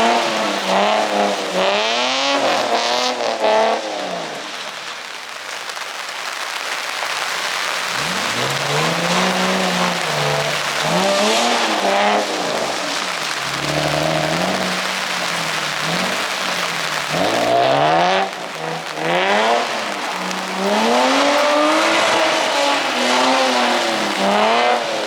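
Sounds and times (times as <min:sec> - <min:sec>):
car engine revving: 0:00.0 - 0:04.5, 0:07.8 - 0:25.0
tyres hissing on wet pavement: 0:00.0 - 0:25.0.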